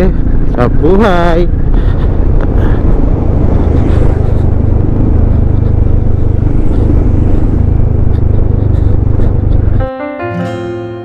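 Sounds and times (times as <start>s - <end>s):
scooter riding roar: 0.0s - 9.9s.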